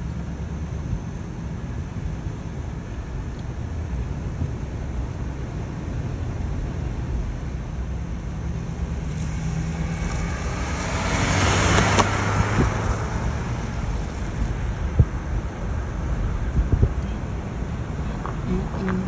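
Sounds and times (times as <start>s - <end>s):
car road noise rumble: 0.0s - 19.0s
rush of passing noise: 3.0s - 19.0s.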